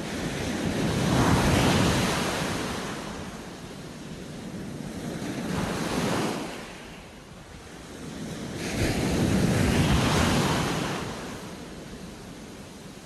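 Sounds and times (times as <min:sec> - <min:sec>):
waves washing up a beach: 0:00.0 - 0:13.0.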